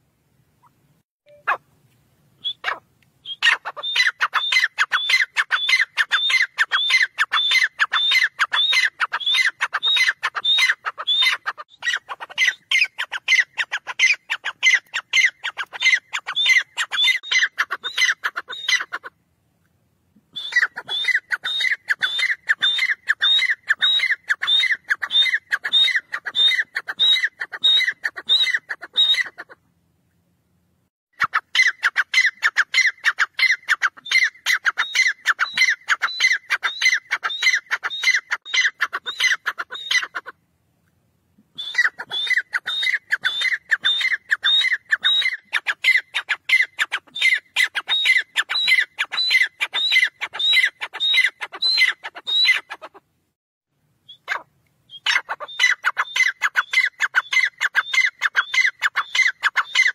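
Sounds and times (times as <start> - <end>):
francolin calling: 0.6 - 1.6, 2.4 - 19.1, 20.3 - 29.6, 31.2 - 40.3, 41.5 - 53.0, 54.1 - 59.9.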